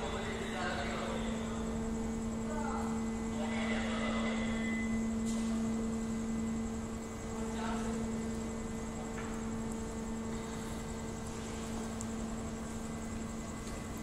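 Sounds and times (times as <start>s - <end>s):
machinery drive humming: 0.0s - 14.0s.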